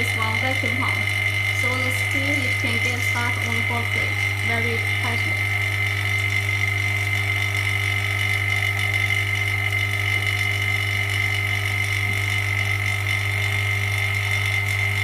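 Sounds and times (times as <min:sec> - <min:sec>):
vacuum pump humming with whine: 0:00.0 - 0:15.0.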